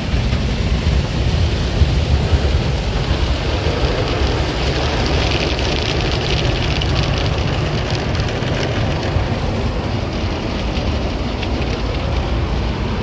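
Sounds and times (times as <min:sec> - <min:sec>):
car wash machinery rumbling: 0:00.0 - 0:13.0
rushing hiss of water: 0:00.0 - 0:13.0.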